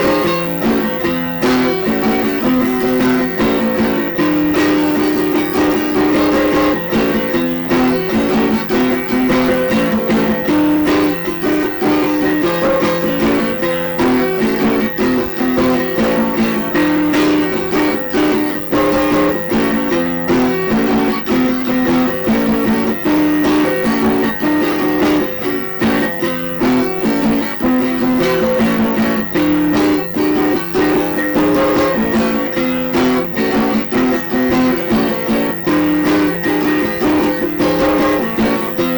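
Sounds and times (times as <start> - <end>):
plucked guitar notes: 0.0 - 38.9.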